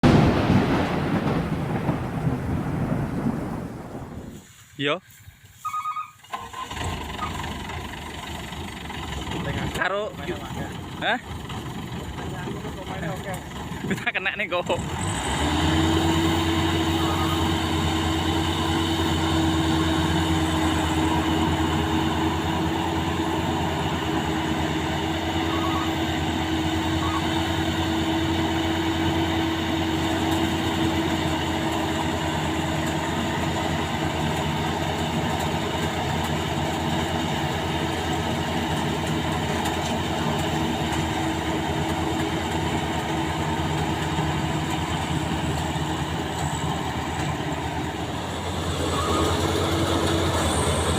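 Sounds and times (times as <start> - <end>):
combine harvester engine drone: 0.0 - 4.4, 6.3 - 50.9.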